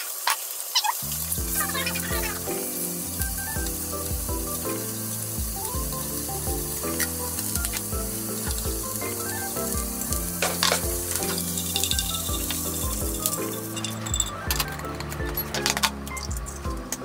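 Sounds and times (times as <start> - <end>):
meat sizzling in a pan: 0.0 - 14.2
soft background music: 1.1 - 17.0.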